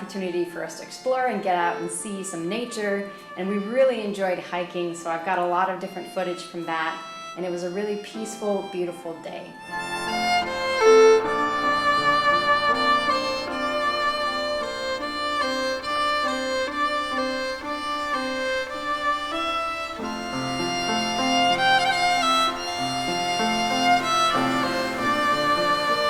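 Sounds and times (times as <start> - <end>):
violin melody: 0.2 - 26.0.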